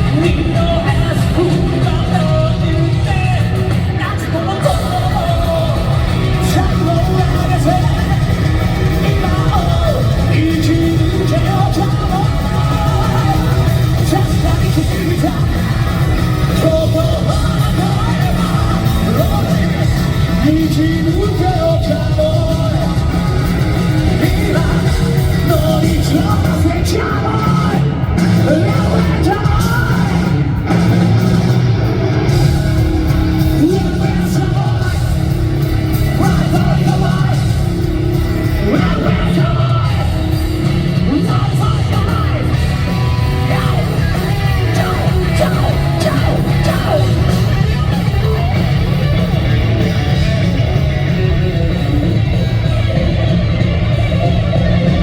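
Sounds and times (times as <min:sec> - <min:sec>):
man singing and shouting: 0:00.0 - 0:31.2, 0:32.2 - 0:55.0
live rock band playing: 0:00.0 - 0:55.0.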